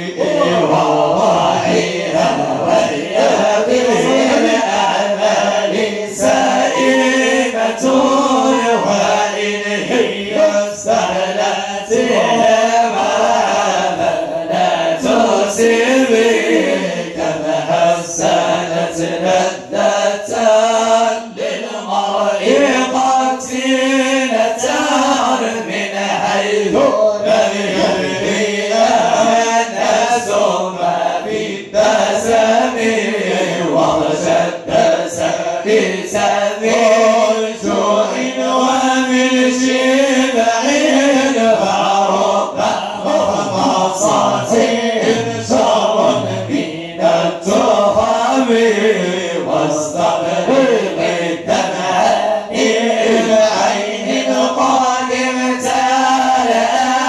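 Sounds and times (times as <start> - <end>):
men chanting into microphones: 0.0 - 57.0.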